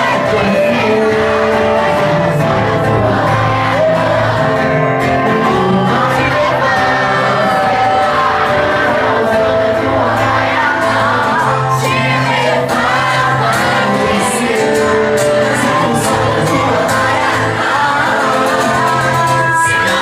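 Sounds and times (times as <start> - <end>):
audience shouting and singing: 0.0 - 20.0
lead singer singing: 0.0 - 20.0
live band playing: 0.0 - 20.0.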